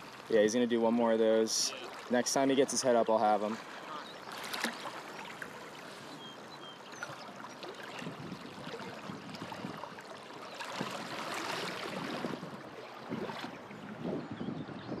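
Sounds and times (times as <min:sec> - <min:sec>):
river water flowing: 0:00.0 - 0:14.3.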